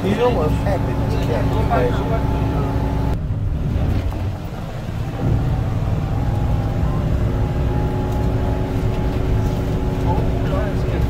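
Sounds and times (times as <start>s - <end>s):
road noise: 0.0s - 11.0s
vehicle engine rumbling: 0.0s - 11.0s.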